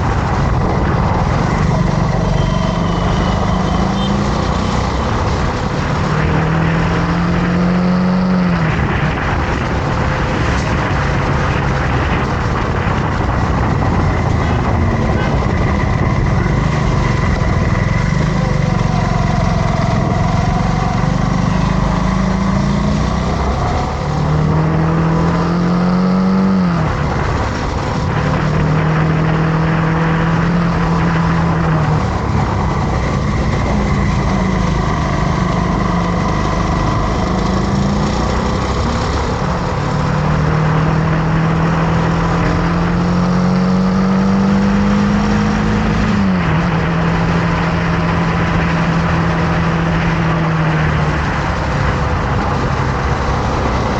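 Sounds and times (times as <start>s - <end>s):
motorcycle engine revving: 0.0s - 53.9s
steady rushing noise: 0.0s - 53.9s.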